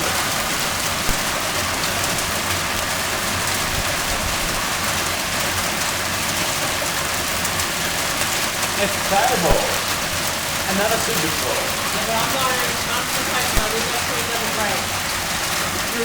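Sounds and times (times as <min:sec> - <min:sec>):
hailstone ticks: 0:00.0 - 0:16.0
heavy hail and rain: 0:00.0 - 0:16.0.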